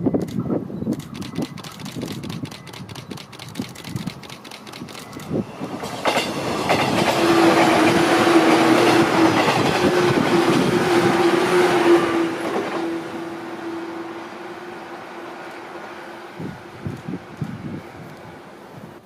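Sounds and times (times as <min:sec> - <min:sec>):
train hum: 0:00.0 - 0:19.0.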